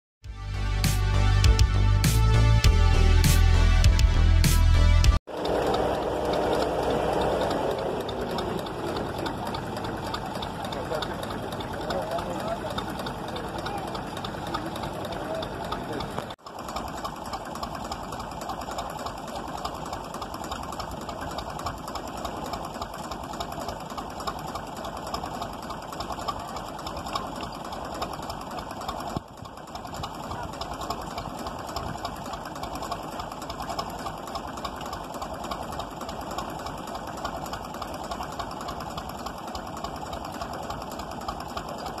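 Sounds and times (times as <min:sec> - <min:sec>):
tractor engine running: 0:00.2 - 0:42.0
fast mechanical rattle: 0:05.3 - 0:42.0.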